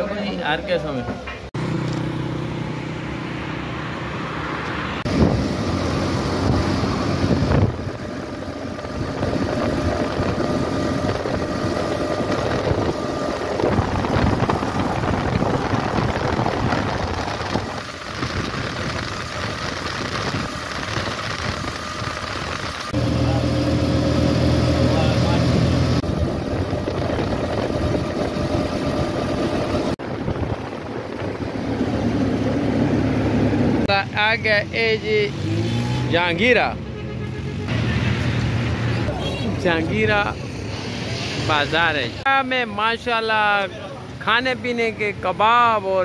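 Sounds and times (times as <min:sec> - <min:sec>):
road and wind noise: 0:00.0 - 0:46.0
engine hum: 0:01.2 - 0:42.2.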